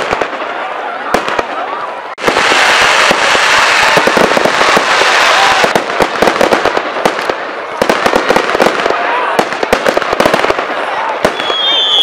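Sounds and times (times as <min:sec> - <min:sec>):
fireworks bangs: 0:00.0 - 0:12.0
fireworks crackling hiss: 0:02.2 - 0:12.0.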